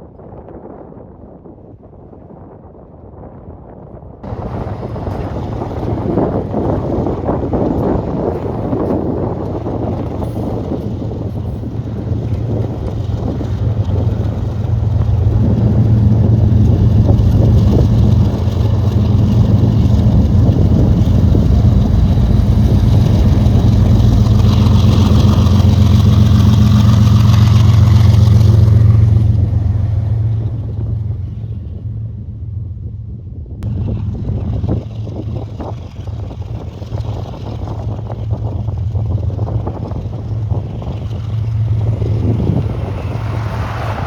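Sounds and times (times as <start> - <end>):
diesel locomotive engine humming: 4.2 - 44.0.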